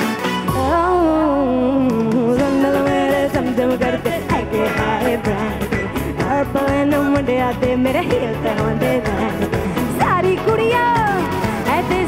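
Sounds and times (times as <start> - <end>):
woman singing into a microphone: 0.5 - 12.0
band with steady drum beat: 1.8 - 12.0.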